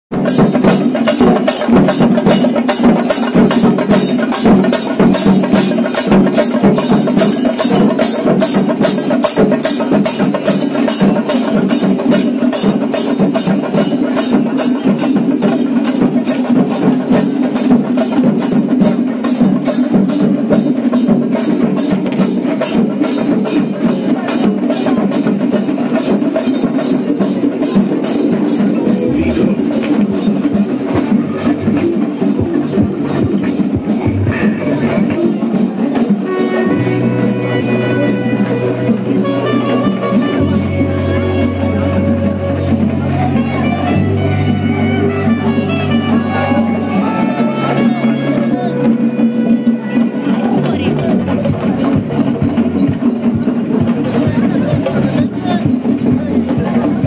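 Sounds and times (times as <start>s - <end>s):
drums beaten with sticks: 0.1s - 57.0s
rapid cymbal clashing: 0.1s - 57.0s.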